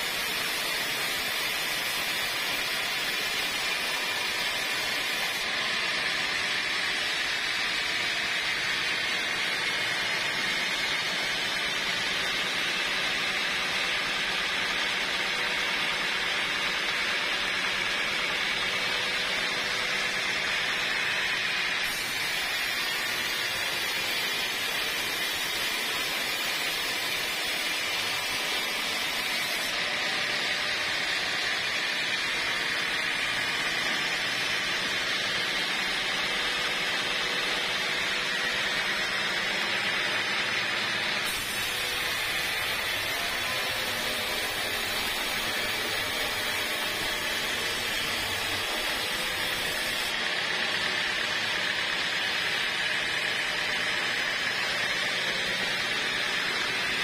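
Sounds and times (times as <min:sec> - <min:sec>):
saw blade rasping through wood: 0:00.0 - 0:14.2, 0:17.6 - 0:39.0, 0:41.2 - 0:57.0.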